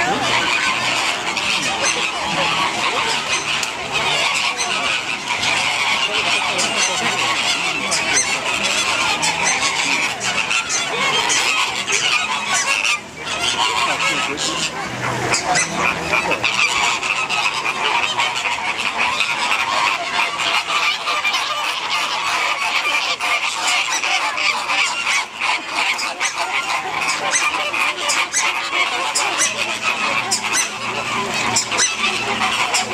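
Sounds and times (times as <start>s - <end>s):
flock of flamingos honking: 0.0s - 32.9s.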